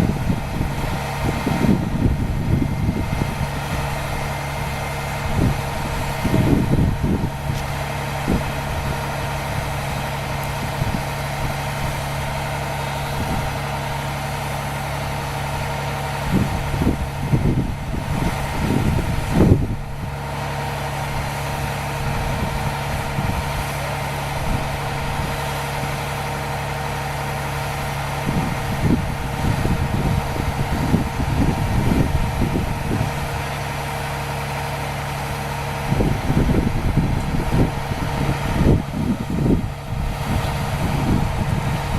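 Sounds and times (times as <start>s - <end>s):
fire truck engine idling: 0.0s - 41.9s.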